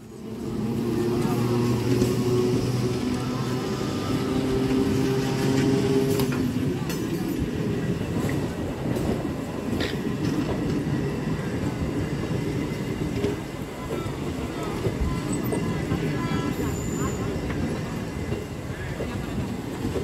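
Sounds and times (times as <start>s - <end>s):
electric train passing: 0.0s - 20.0s
steady train hum: 0.0s - 20.0s
wheels clicking over rail joints: 0.0s - 20.0s.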